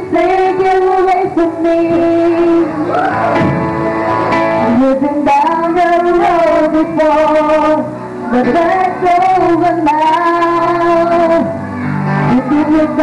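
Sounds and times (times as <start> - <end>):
two women singing duet: 0.0 - 3.2, 4.6 - 11.6, 12.2 - 13.0
instrumental backing music with guitar: 0.0 - 13.0.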